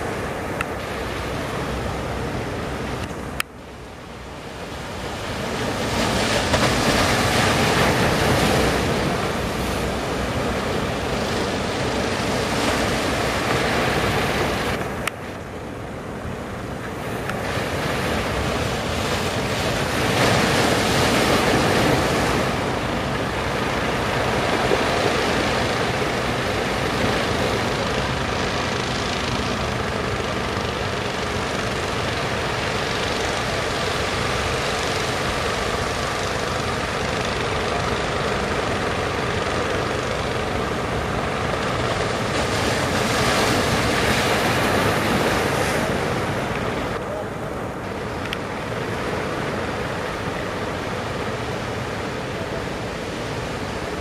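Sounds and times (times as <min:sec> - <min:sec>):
boat engines running: 0:00.0 - 0:54.0
surf breaking and washing: 0:00.0 - 0:54.0.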